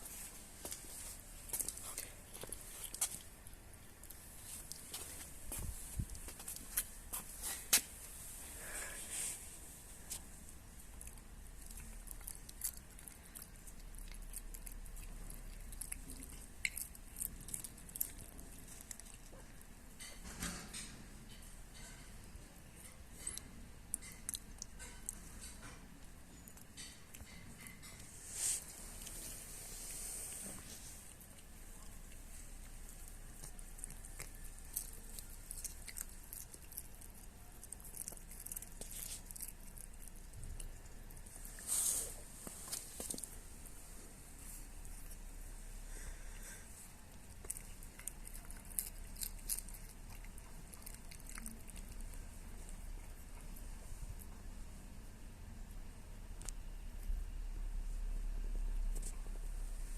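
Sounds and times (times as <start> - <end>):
cat chewing and smacking: 0.1 - 7.8, 9.9 - 20.2, 21.3 - 55.1.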